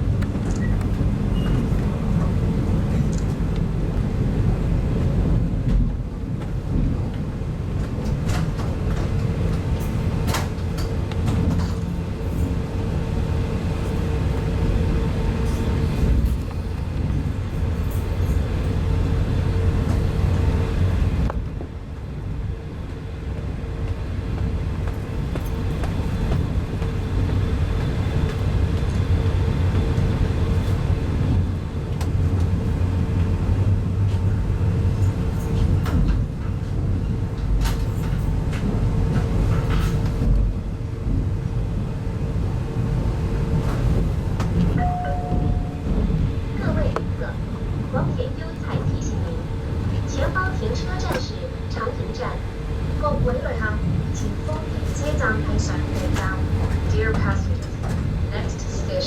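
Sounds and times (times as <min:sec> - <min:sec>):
constant hum: 0:00.0 - 0:59.0
train wheels rumbling on rails: 0:00.0 - 0:59.0.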